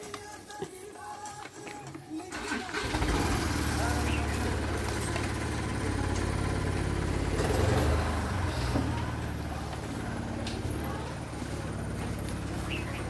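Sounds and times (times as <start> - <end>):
truck engine idling: 2.3 - 13.0.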